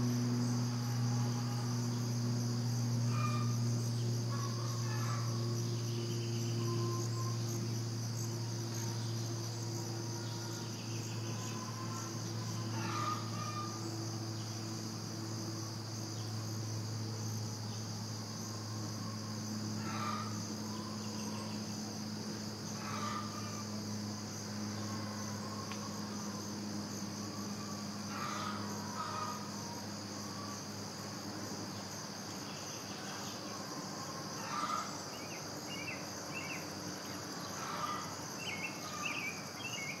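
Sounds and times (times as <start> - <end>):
crickets chirring: 0.0 - 40.0
low steady hum: 0.0 - 40.0.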